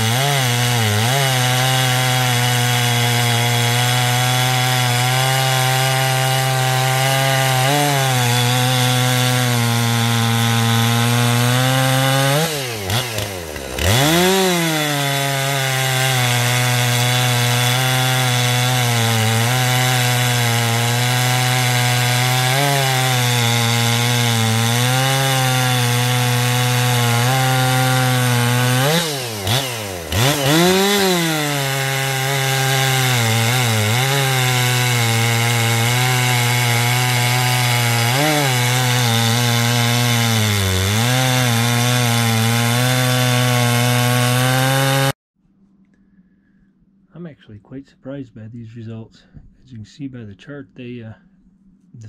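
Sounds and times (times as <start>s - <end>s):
chainsaw cutting wood: 0.0s - 45.2s.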